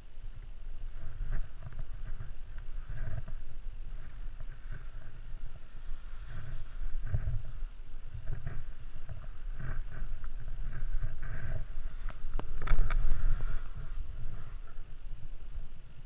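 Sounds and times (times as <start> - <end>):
wind rumbling on microphone: 0.0 - 16.0
skis scraping over snow: 0.9 - 14.9.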